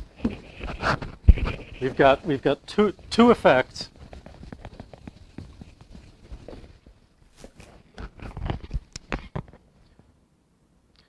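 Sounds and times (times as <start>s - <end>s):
footsteps: 0.0s - 9.6s.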